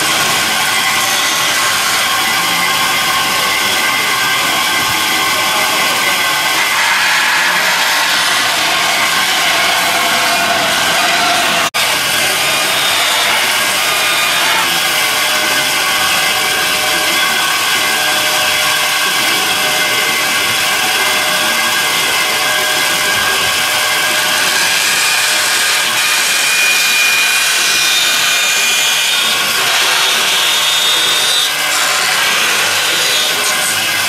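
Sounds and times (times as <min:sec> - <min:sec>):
power tool working wood: 0:00.0 - 0:34.0.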